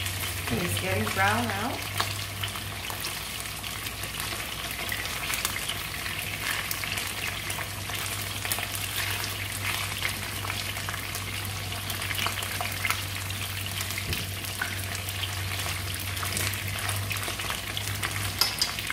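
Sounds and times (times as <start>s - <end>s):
fish sizzling in oil: 0.0s - 18.9s
low steady hum: 0.0s - 18.9s.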